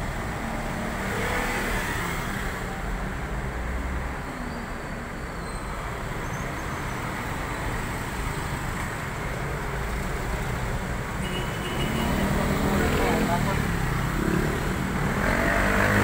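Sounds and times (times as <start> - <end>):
passing cars and motorbikes: 0.0 - 16.0.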